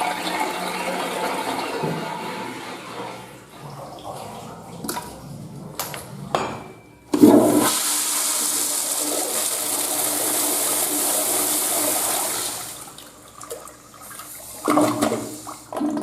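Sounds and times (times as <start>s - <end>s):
toilet flushing water rush: 0.0s - 6.3s, 7.2s - 16.0s.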